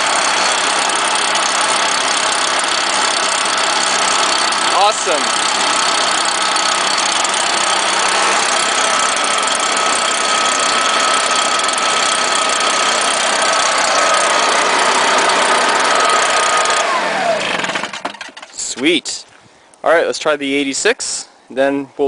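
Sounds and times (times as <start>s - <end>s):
leaf blower engine running: 0.0s - 19.0s.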